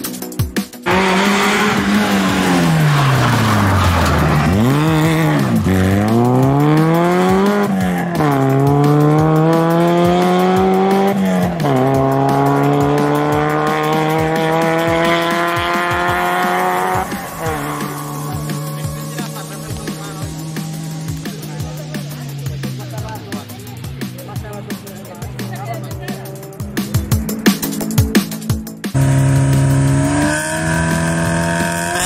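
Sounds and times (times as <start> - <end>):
car engine at full throttle: 0.8 - 32.0.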